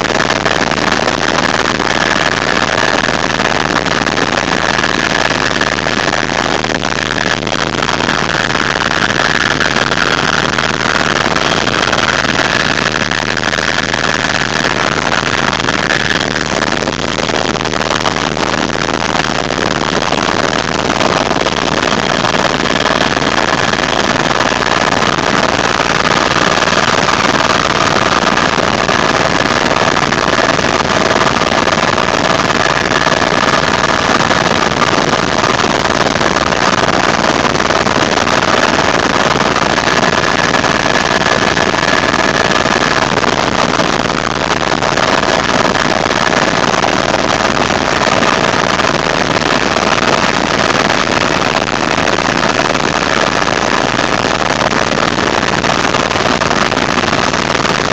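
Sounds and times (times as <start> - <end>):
faint steady whine: 0.0 - 57.9.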